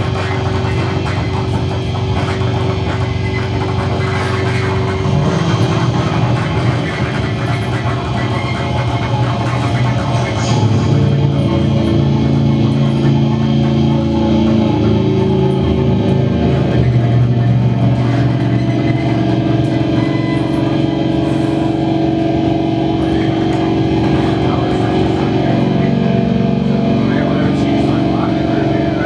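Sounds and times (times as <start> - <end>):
amplified drone music: 0.0 - 29.0.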